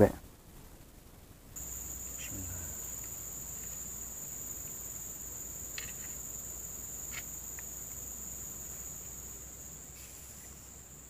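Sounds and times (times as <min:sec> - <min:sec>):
insect chorus buzzing: 0:01.6 - 0:11.0.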